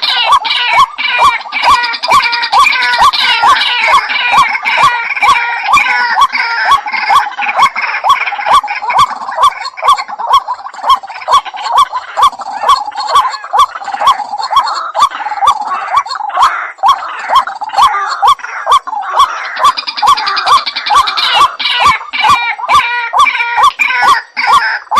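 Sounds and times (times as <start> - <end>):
waterhen calling: 0.0 - 24.9.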